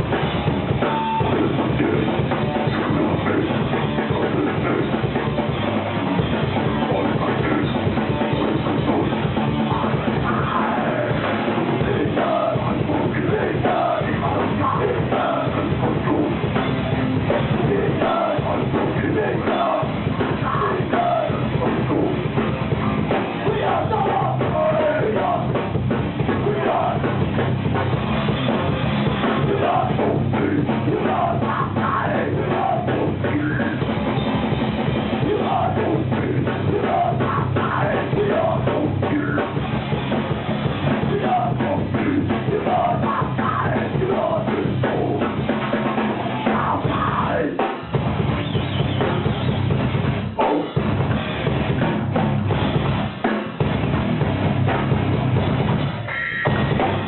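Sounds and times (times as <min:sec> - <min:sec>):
drum kit: 0:00.0 - 0:57.0
heavy metal band playing: 0:00.0 - 0:57.0.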